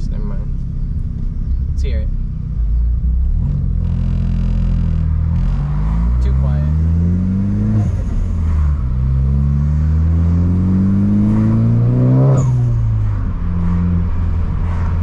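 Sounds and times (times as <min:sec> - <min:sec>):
car engine accelerating: 0:00.1 - 0:15.0.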